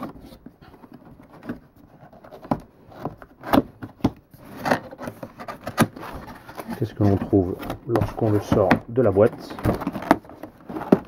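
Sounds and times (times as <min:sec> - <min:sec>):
cardboard scraping and rubbing: 0:00.0 - 0:11.0.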